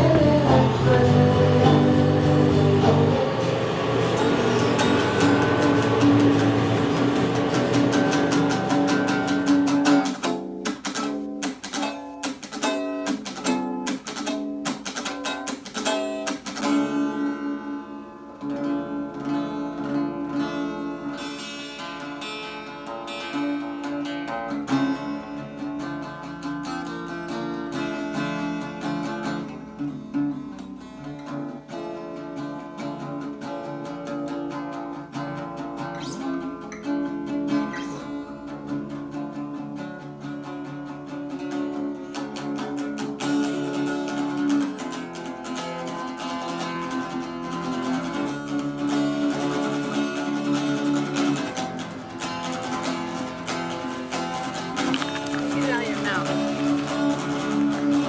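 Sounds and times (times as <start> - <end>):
acoustic guitar picked notes: 0.0 - 58.0
acoustic guitar strumming chords: 0.0 - 58.0.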